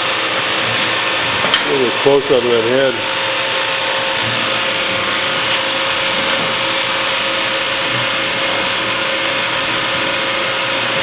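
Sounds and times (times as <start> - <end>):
hydraulic power unit humming: 0.0 - 11.0.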